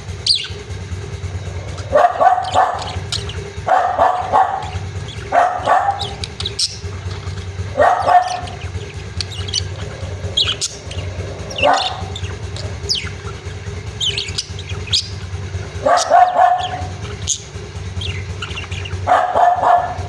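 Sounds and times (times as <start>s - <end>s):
budgerigars chirping: 0.0s - 20.0s
steady low hum: 0.0s - 20.0s
dog barking: 1.4s - 20.0s.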